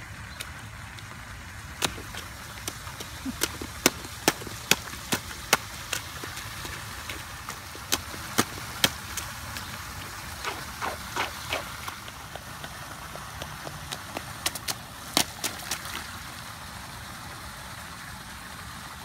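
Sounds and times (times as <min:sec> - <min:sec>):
rain boots splashing in puddle: 0:00.3 - 0:16.4.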